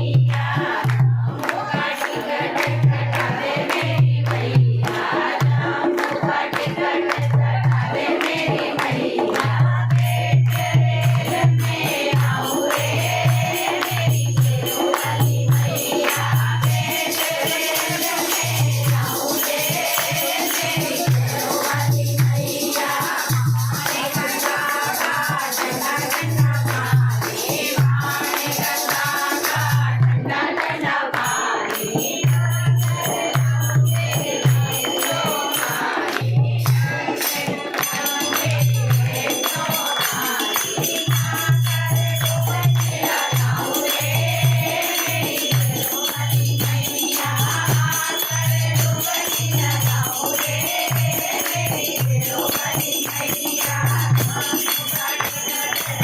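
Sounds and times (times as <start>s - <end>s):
group singing devotional song: 0.0s - 56.0s
jingling hand percussion: 0.0s - 56.0s.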